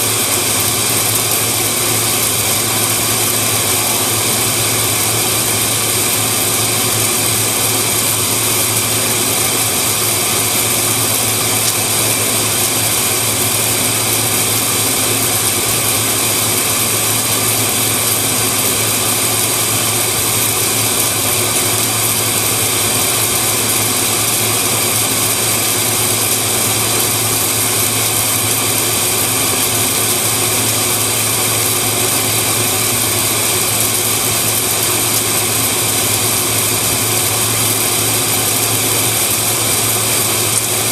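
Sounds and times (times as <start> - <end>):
welding machine hum and hiss: 0.0 - 40.9.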